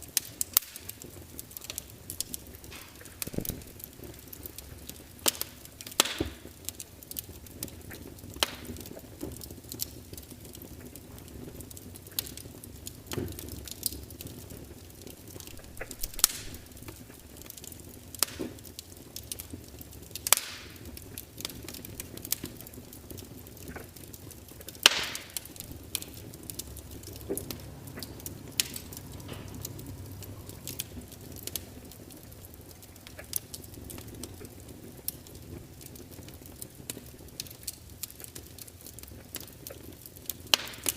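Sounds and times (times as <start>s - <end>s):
logs crackling in fireplace: 0.0s - 40.9s.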